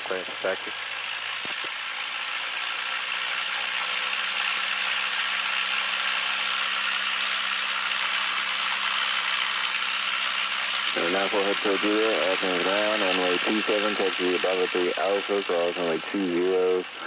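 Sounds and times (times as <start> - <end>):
aircraft piston engine drone: 0.0 - 17.0.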